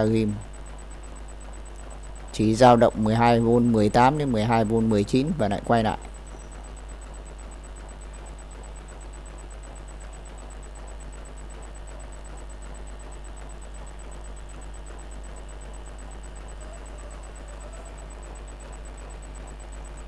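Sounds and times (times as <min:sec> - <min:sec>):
faint high-pitched whine: 0:00.0 - 0:20.0
low electrical hum: 0:00.0 - 0:20.0.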